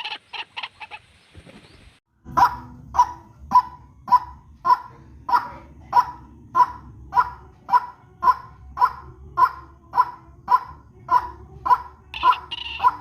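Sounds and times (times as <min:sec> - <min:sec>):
bird calling harshly: 0:00.0 - 0:01.2, 0:03.5 - 0:13.0.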